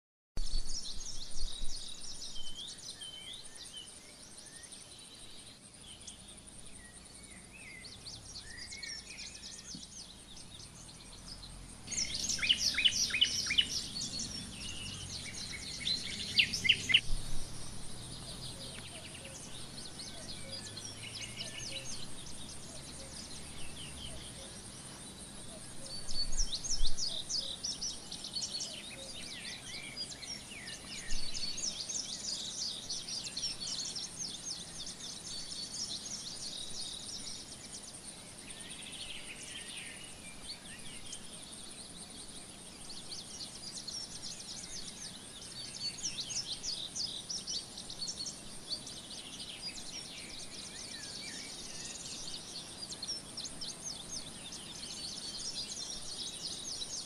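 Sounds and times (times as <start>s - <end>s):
faint high hiss: 0.4s - 57.0s
songbirds singing and chirping: 0.4s - 57.0s.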